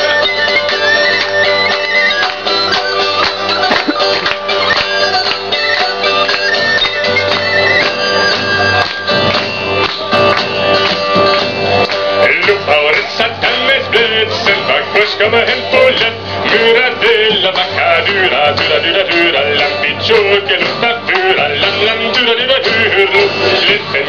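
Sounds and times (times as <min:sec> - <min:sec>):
hand drums: 0:00.0 - 0:24.0
plucked lute melody: 0:00.0 - 0:24.0.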